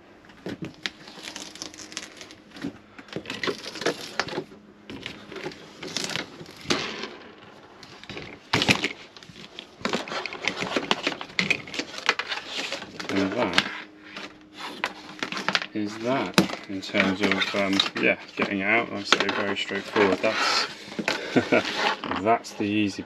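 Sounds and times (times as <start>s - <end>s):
plastic trim crackling and scraping: 0.4s - 23.0s.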